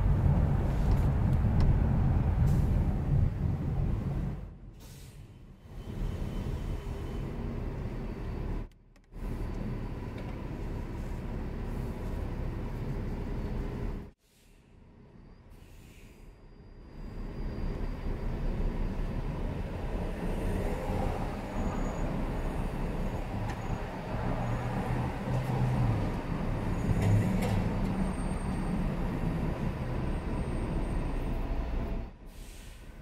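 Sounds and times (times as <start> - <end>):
bus engine rumbling: 0.0 - 33.0.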